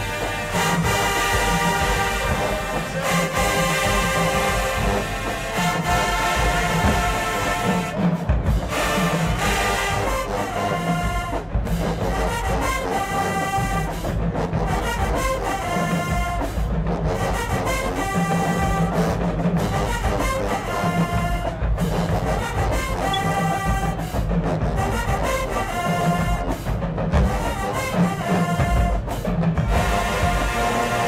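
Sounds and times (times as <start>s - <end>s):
bass drums and percussion: 0.0s - 31.0s
brass chords: 0.0s - 31.0s
marching band playing: 0.0s - 31.0s.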